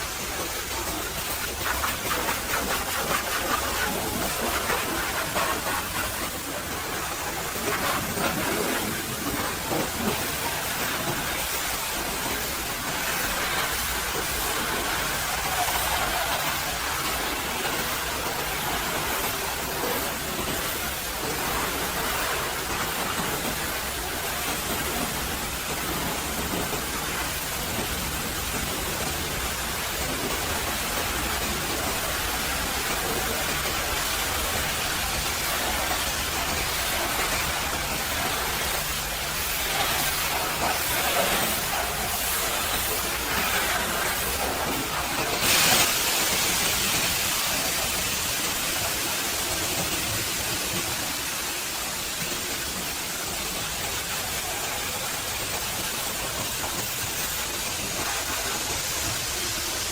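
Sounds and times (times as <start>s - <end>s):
pressure washer spraying: 0.0s - 59.9s.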